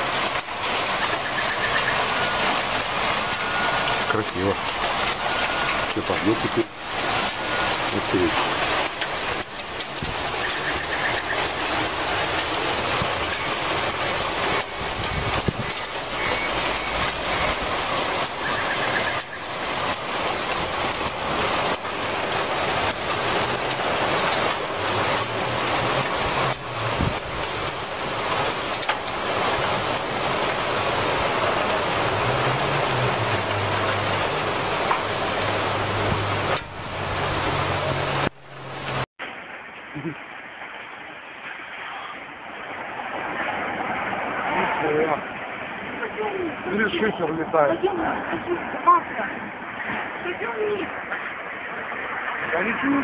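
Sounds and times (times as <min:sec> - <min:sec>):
storm wind roaring: 0:00.0 - 0:53.0
torrential rain: 0:00.0 - 0:53.0.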